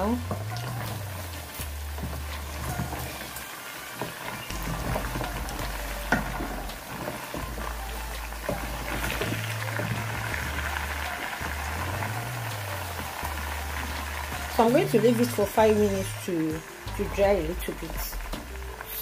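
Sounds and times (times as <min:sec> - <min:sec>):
wooden spoon stirring: 0:00.0 - 0:18.9
meat deep-frying in hot oil: 0:00.0 - 0:19.0.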